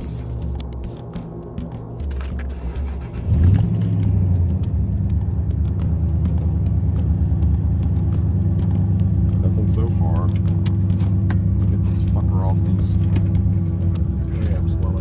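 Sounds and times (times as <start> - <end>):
car engine starting and idling: 0.0 - 15.0.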